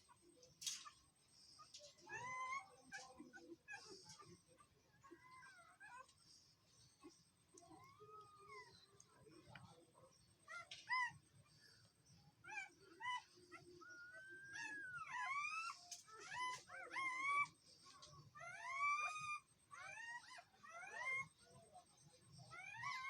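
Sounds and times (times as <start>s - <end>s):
puppies squealing and whining: 0.6s - 8.8s, 10.4s - 11.8s, 12.4s - 23.0s.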